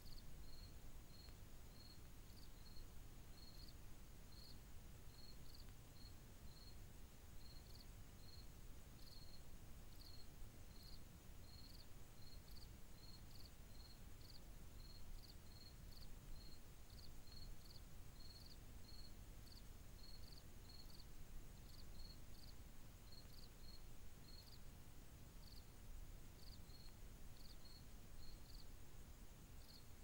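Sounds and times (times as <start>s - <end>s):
cricket chirping: 0.0s - 30.0s
low background hiss: 0.0s - 30.0s.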